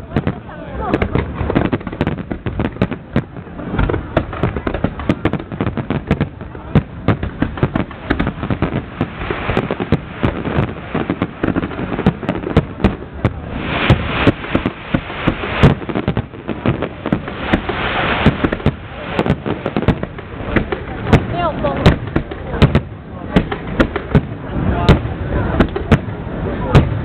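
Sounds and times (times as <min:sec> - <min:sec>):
dense crackling of fireworks: 0:00.0 - 0:27.0
fireworks bangs and pops: 0:00.0 - 0:27.0.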